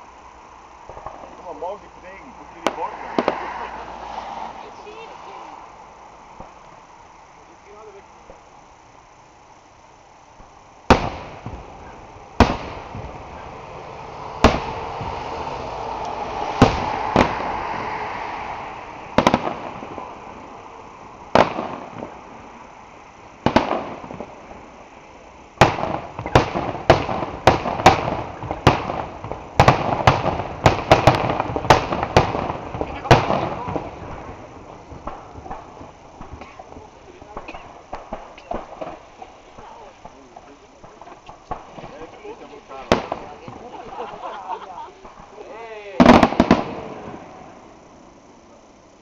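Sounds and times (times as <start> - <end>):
fireworks bursting: 0.0 - 49.0.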